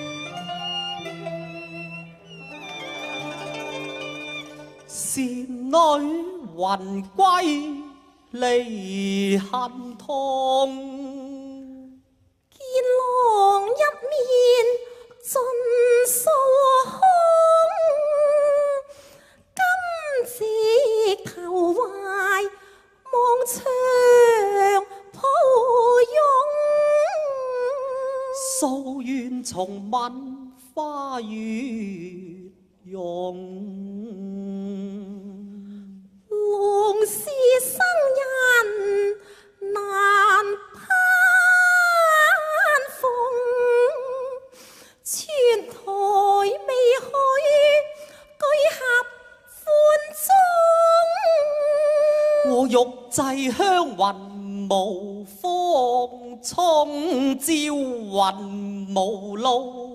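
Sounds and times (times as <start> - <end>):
woman singing opera: 0.0 - 59.9.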